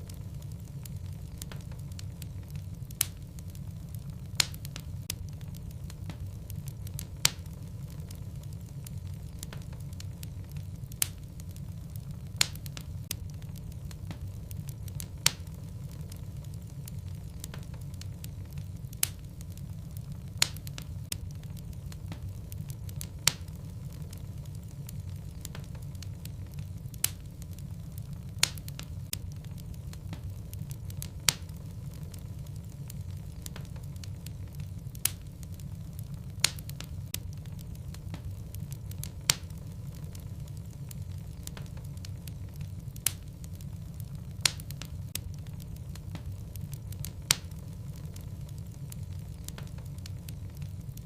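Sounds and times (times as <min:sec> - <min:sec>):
burning logs crackling: 0:00.0 - 0:51.0
fire rumbling: 0:00.0 - 0:51.0.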